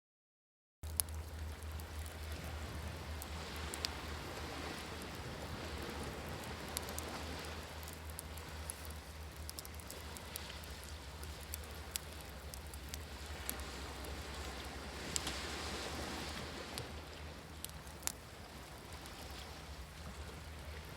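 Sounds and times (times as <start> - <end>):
campfire crackling: 0.8 - 20.9
low rumble: 0.8 - 20.9
ocean waves: 0.9 - 20.9.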